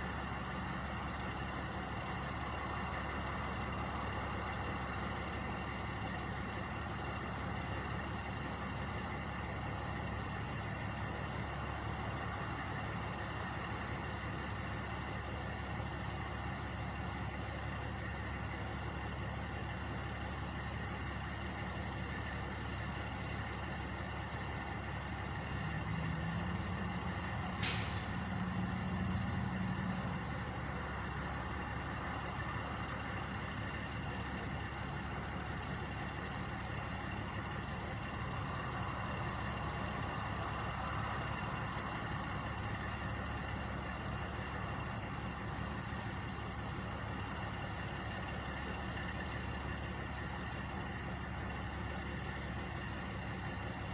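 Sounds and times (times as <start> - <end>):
truck engines idling: 0.0 - 53.9.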